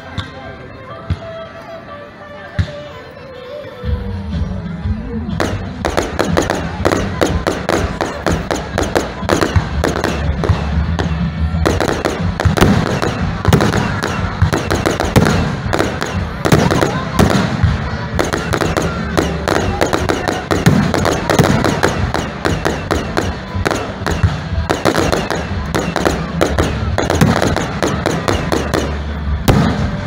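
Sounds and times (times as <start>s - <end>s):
fireworks bangs and crackles: 5.3s - 30.0s.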